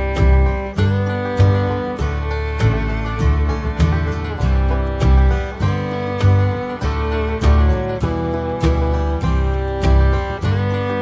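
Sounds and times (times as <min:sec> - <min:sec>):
bass line: 0:00.0 - 0:11.0
steady beat: 0:00.0 - 0:11.0
strummed acoustic guitar: 0:00.0 - 0:11.0.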